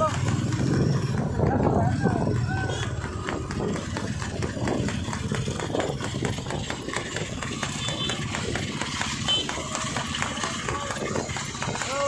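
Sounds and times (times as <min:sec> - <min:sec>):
horse hooves on paved road: 0:00.0 - 0:12.0
motorcycle engine running: 0:00.0 - 0:12.0.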